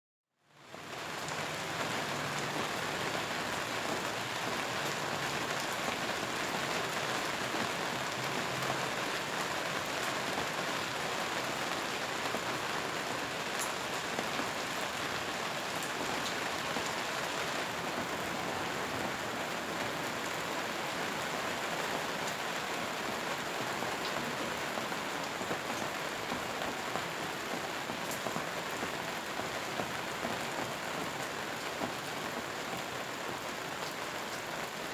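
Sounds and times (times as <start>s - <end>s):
steady rain hiss: 0.5s - 34.9s.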